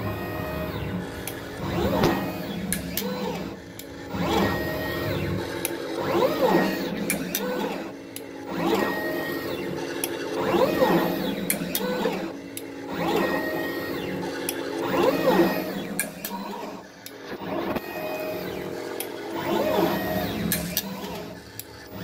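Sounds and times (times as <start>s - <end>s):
machine motors whining: 0.0s - 22.0s
steady machine hum: 0.0s - 22.0s
sharp machine clicks: 1.0s - 13.4s, 14.0s - 17.8s, 18.4s - 22.0s.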